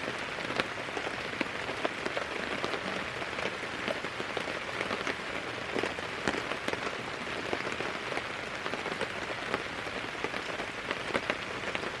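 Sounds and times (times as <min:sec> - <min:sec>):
raindrops ticking on a surface: 0:00.0 - 0:12.0
steady rain falling: 0:00.0 - 0:12.0.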